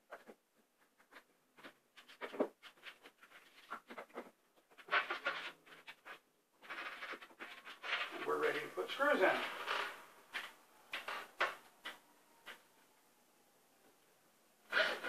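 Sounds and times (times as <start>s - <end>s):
scratchy rustling: 0.0s - 12.7s.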